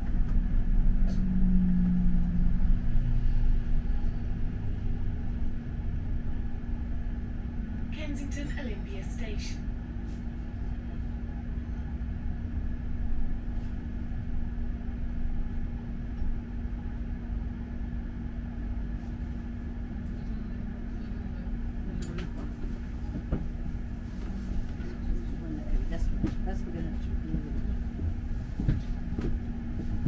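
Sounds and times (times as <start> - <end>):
bus engine and road rumble: 0.0 - 30.0
constant hum: 0.0 - 30.0.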